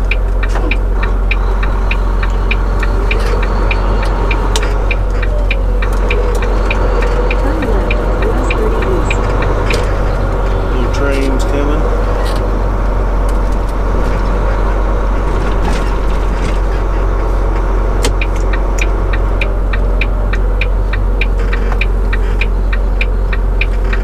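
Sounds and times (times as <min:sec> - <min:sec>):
rattles: 0:00.0 - 0:22.6
diesel truck engine running: 0:00.0 - 0:24.0
turn signal ticking: 0:00.0 - 0:24.0.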